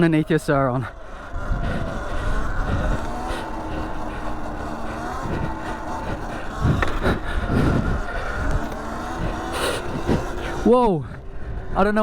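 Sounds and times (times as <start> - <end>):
electric motor whine: 1.0 - 12.0.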